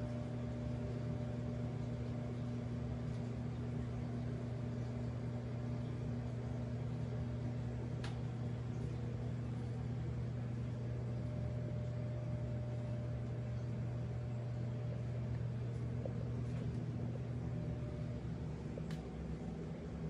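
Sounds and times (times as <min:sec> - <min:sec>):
pump mains hum: 0:00.0 - 0:20.0.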